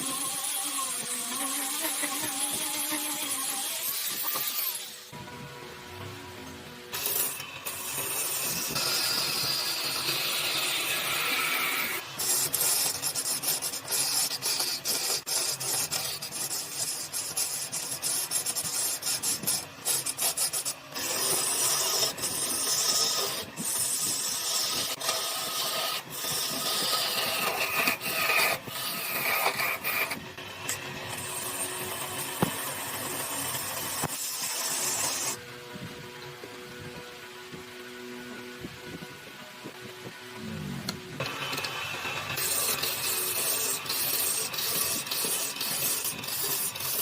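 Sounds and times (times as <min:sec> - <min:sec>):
rasp scraping wood: 0:00.0 - 0:05.1, 0:07.0 - 0:35.4, 0:41.2 - 0:47.0.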